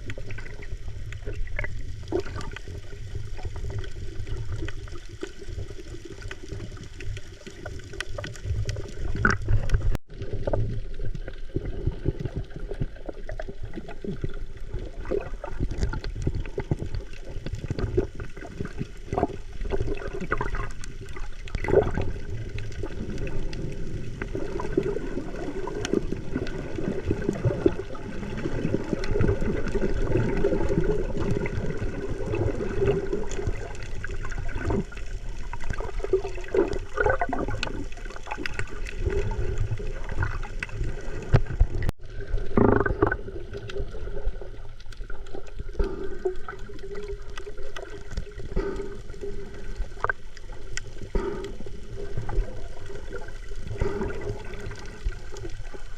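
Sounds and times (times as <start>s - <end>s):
small water splashes: 0.0s - 55.9s
water sloshing and gurgling: 0.0s - 55.9s.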